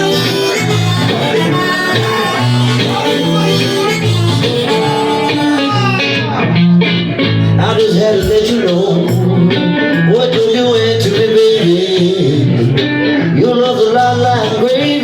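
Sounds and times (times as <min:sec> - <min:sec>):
live blues guitar music: 0:00.0 - 0:15.0.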